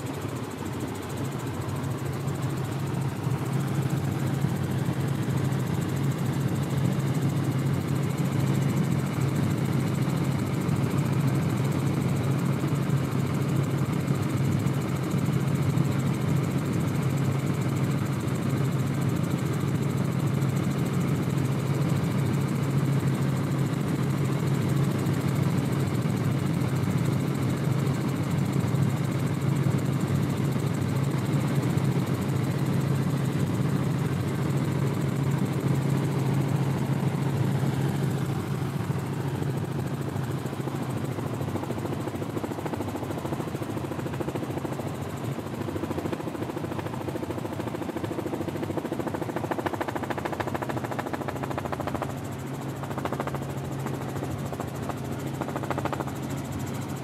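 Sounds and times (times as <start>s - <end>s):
engine droning steadily: 0.0s - 57.0s.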